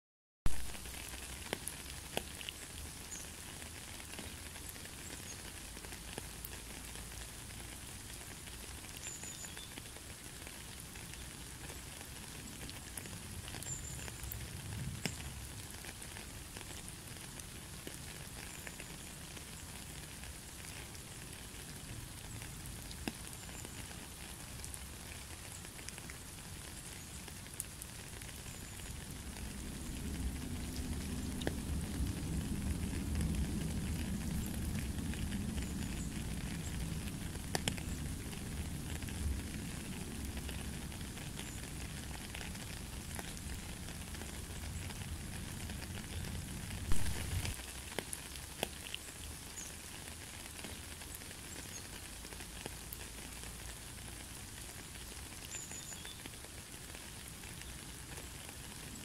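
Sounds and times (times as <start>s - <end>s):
heavy rain falling: 0.5s - 59.0s.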